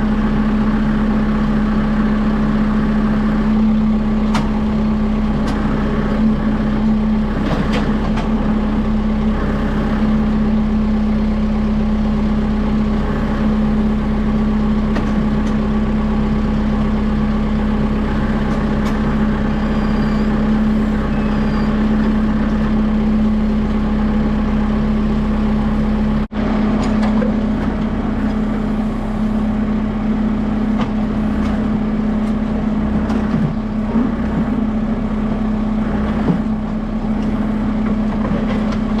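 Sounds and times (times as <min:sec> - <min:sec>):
tractor diesel engine droning: 0:00.0 - 0:39.0.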